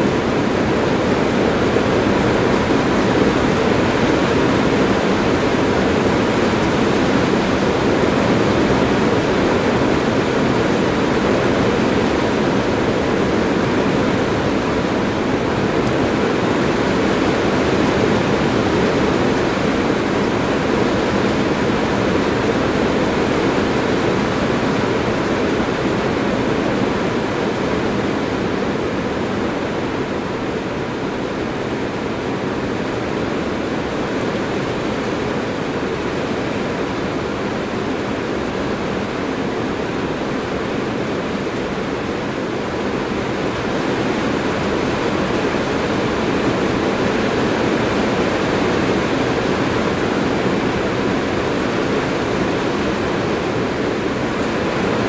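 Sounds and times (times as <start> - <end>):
heavy rain on a metal roof: 0.0 - 55.0.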